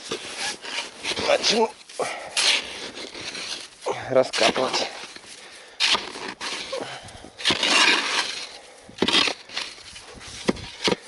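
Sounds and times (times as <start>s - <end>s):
shovel crunching into snow: 0.0s - 11.0s.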